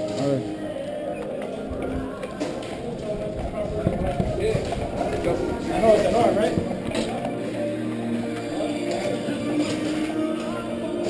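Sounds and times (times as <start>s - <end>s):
background music held notes: 0.0s - 11.0s.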